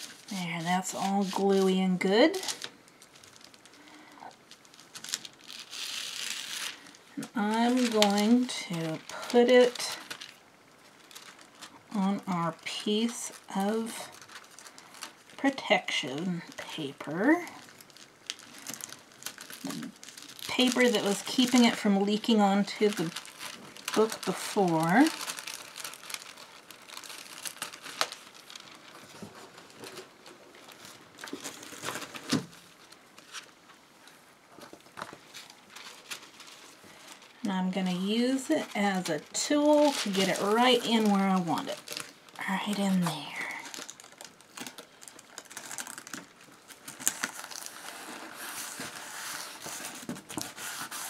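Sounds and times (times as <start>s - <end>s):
paper crinkling and rustling: 0.0s - 51.0s.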